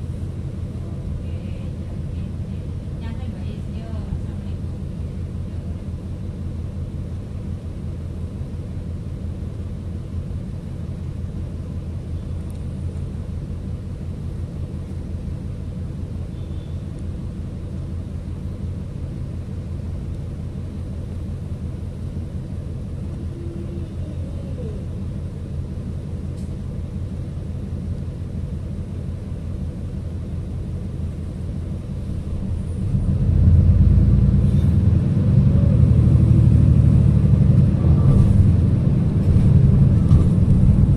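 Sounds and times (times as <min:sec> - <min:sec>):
bus engine rumbling: 0:00.0 - 0:40.9.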